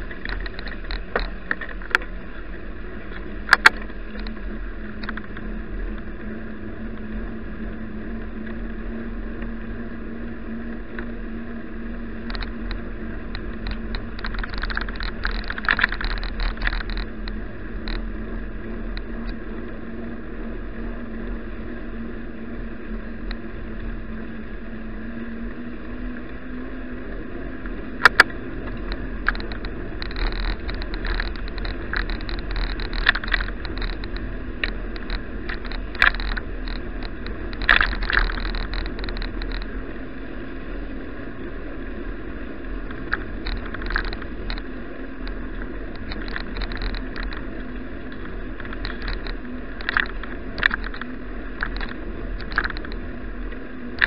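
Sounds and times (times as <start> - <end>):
bicycle tyre noise: 0.0 - 54.0
wind noise on microphone: 0.0 - 54.0.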